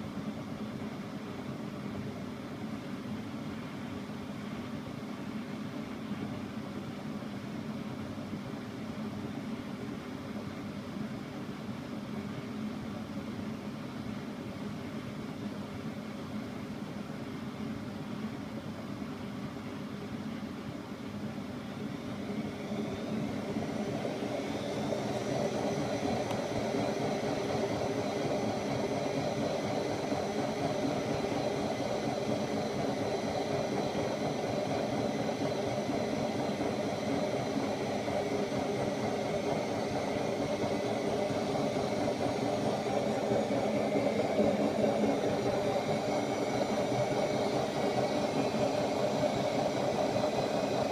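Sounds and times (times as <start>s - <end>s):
washing machine drum motor whine: 0.0s - 50.9s.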